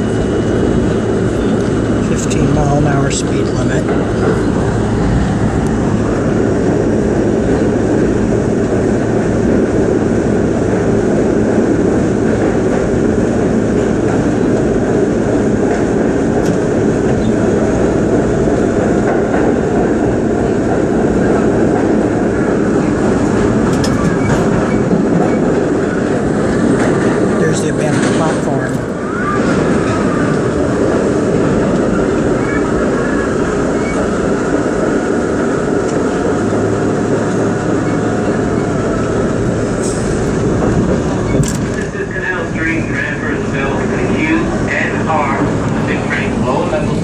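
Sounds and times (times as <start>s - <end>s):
subway train wheels rumbling: 0.0s - 47.0s.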